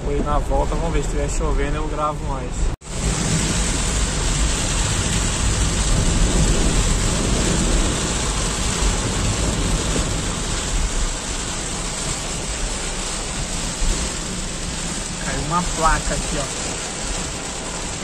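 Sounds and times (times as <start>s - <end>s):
heavy rain on car roof: 2.8s - 18.0s.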